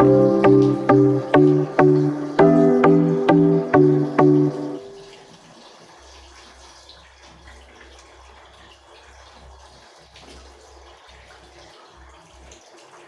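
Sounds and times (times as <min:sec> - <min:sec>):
faint running water from tap: 0:00.0 - 0:13.0.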